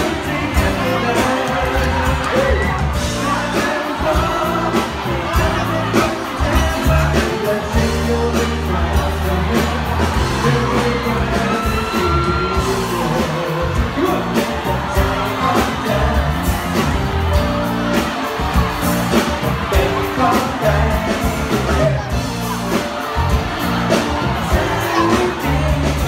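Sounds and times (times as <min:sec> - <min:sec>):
crowd whooping and shouting: 0:00.0 - 0:26.0
live pop band playing: 0:00.0 - 0:26.0
person singing: 0:00.0 - 0:26.0.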